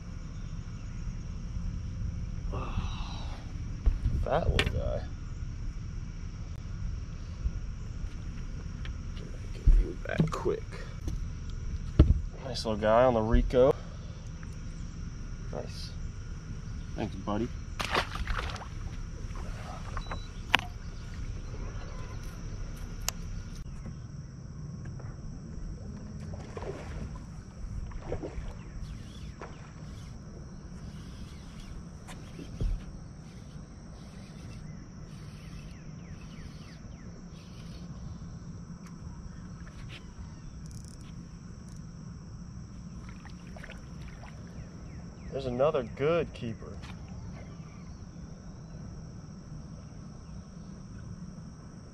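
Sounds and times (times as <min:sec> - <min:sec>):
boat engine rumble: 0:00.0 - 0:51.9.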